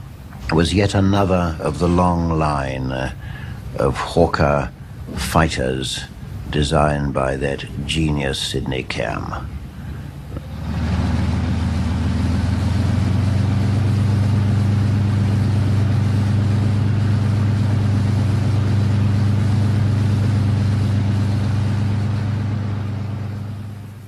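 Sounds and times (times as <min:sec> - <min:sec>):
aircraft engine running: 0:00.0 - 0:24.0.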